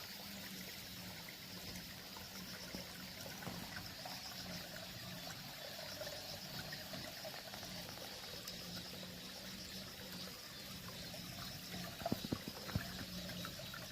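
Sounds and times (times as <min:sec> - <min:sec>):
stream trickling: 0:00.0 - 0:13.9.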